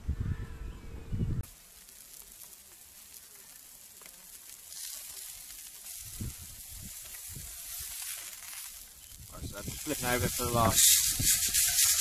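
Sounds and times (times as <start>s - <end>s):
fish sizzling in frying pan: 1.4s - 12.0s.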